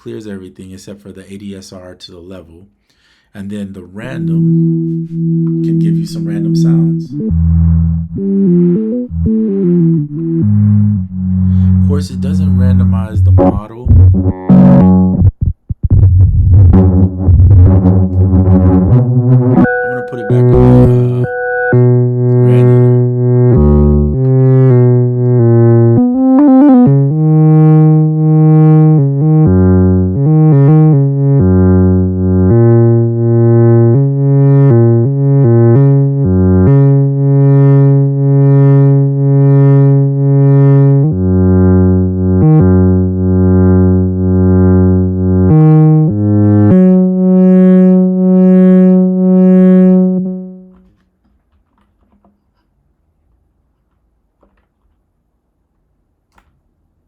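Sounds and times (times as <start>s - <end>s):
synthesizer pulsing low notes: 4.0s - 50.8s.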